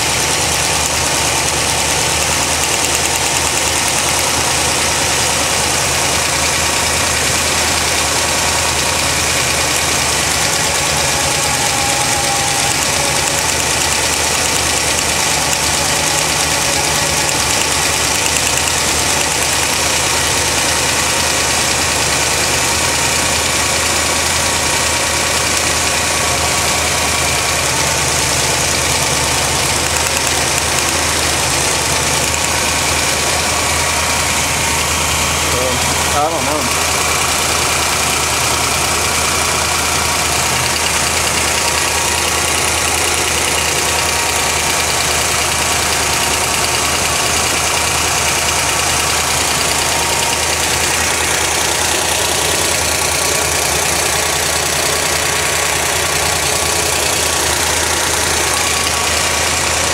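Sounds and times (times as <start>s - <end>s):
car engine idling with ticking: 0.0s - 59.9s.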